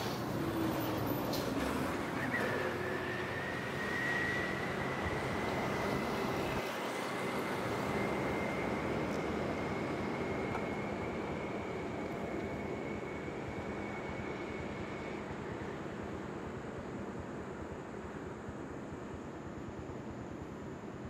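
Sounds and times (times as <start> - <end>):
traffic rumble and tyre hiss: 0.0 - 21.0.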